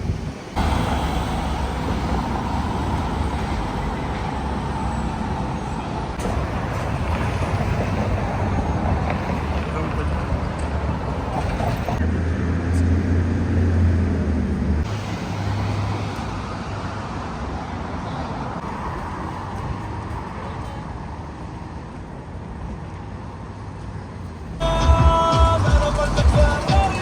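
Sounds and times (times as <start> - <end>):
road traffic rumble and hiss: 0.0 - 27.0.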